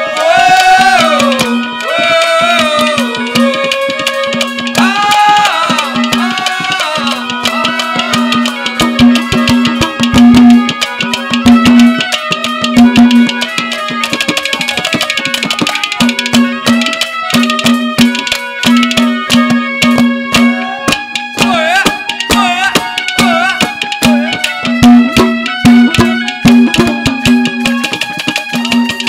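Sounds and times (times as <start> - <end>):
hand drums: 0.0 - 29.0
sliding melody line: 0.0 - 29.0.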